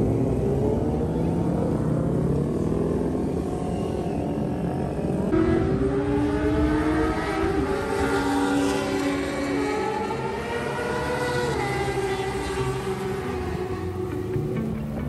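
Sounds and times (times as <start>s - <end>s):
motorcycle engines revving high: 0.0s - 15.0s.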